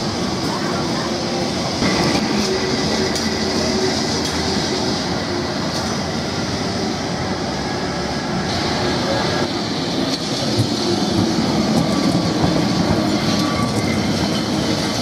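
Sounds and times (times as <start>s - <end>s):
tram running on rails: 0.0s - 15.0s.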